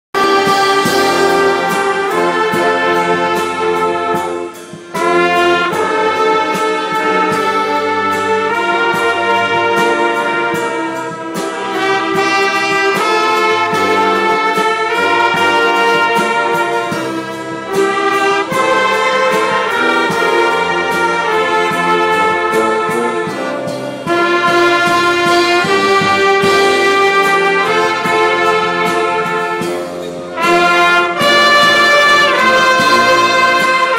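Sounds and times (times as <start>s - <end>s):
orchestra playing sustained chords: 0.2s - 33.9s.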